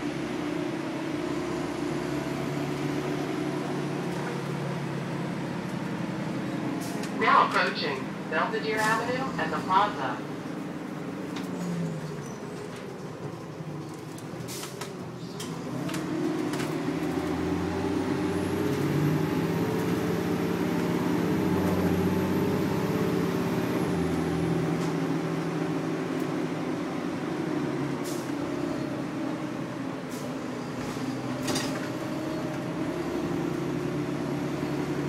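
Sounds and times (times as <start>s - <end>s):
bus diesel engine with whine: 0.0s - 35.0s.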